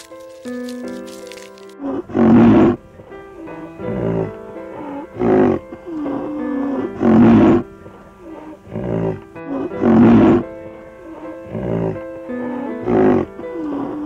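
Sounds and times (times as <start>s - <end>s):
background music with held notes: 0.0s - 14.0s.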